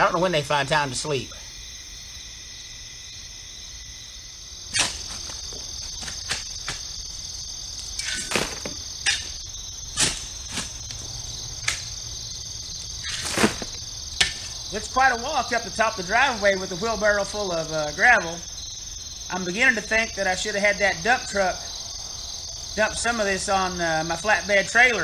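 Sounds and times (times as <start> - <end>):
crickets chirping: 0.0 - 25.0
crunches in loose gravel: 4.5 - 25.0.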